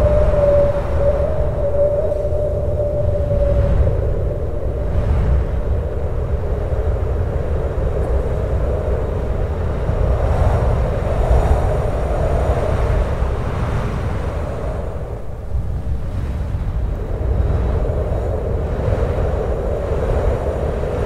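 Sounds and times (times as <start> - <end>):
strong hollow wind: 0.0 - 21.0.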